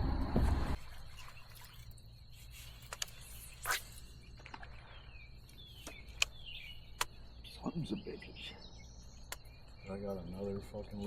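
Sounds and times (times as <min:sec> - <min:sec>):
faint bird chirps: 0:00.8 - 0:11.0.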